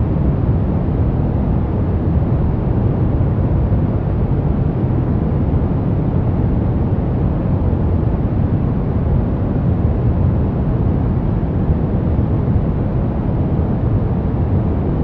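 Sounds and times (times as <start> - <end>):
brown noise rumbling hiss: 0.0 - 15.0.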